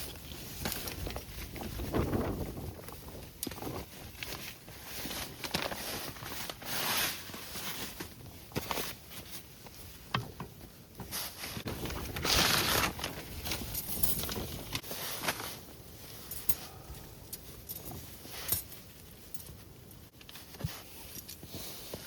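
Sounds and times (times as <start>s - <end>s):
rustling and crinkling: 0.0s - 22.0s.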